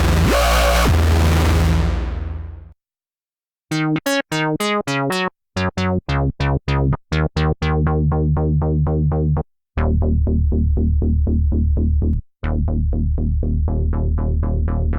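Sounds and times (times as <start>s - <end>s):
synth bass notes: 0.0s - 2.7s, 3.7s - 14.9s.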